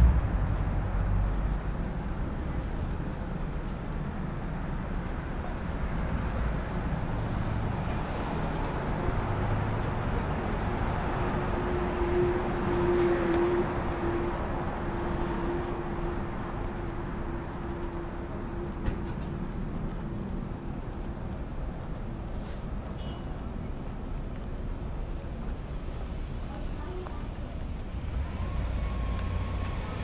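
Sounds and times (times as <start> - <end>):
rumble of passing vehicles: 0.0 - 30.0
steady engine-like hum: 0.0 - 30.0.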